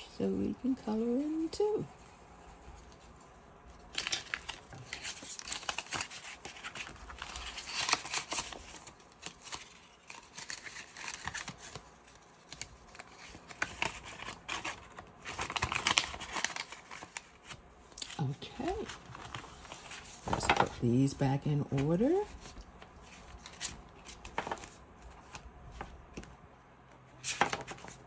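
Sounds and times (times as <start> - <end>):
paper bills rustling: 3.7 - 26.3, 27.2 - 28.0.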